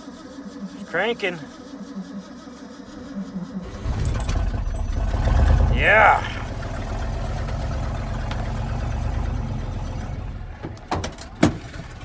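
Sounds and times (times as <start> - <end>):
engine running rough: 0.0 - 12.0.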